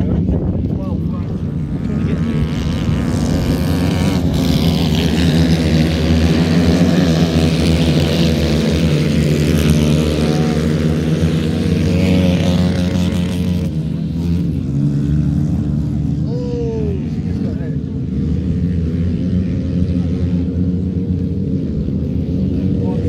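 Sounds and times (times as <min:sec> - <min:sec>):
racing kart engines: 0:00.0 - 0:23.0.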